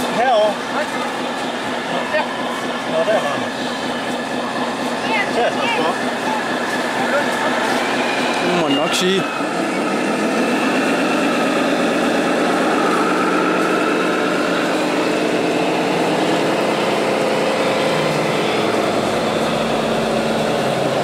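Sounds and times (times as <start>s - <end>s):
model truck motor whine: 0.0s - 21.0s.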